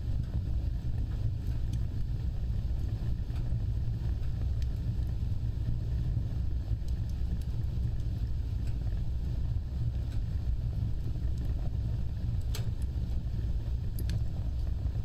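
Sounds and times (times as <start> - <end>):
wood fire roaring: 0.0 - 15.0.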